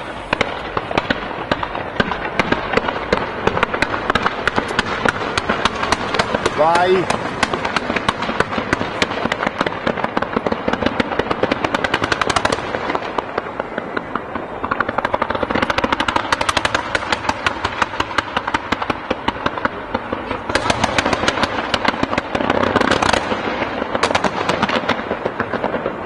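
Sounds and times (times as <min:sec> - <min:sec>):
fireworks in rapid volleys: 0:00.0 - 0:26.0.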